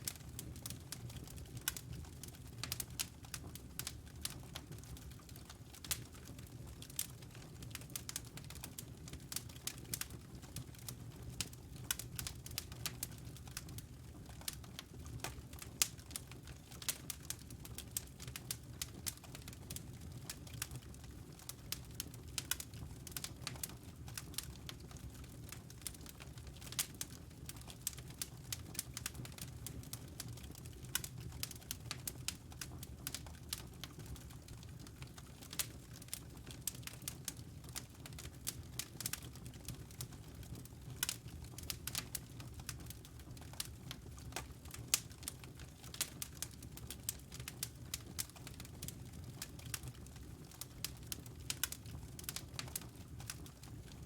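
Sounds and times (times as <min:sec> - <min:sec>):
fire popping and snapping: 0:00.0 - 0:54.0
wood fire crackling: 0:00.0 - 0:54.0.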